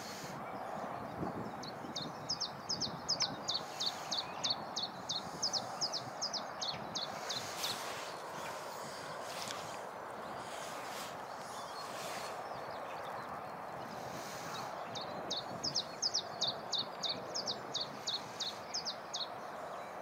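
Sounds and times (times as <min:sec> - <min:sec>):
steady outdoor hiss: 0:00.0 - 0:20.0.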